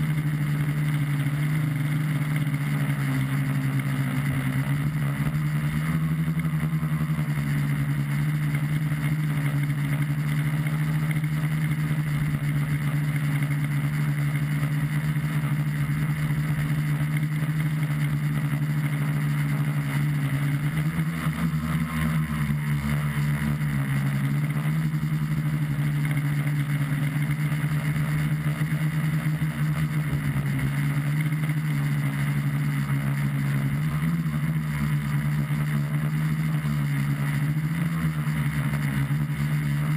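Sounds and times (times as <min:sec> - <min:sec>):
drone motors buzzing hum: 0:00.0 - 0:39.9.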